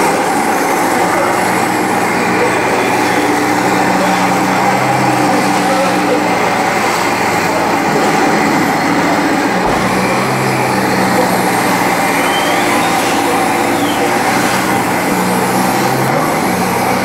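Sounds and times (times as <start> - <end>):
model tanks running: 0.0 - 17.0.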